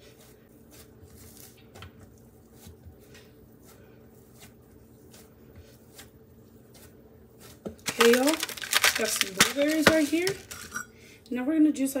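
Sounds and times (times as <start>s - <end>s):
hands squishing dough: 0.0s - 10.7s.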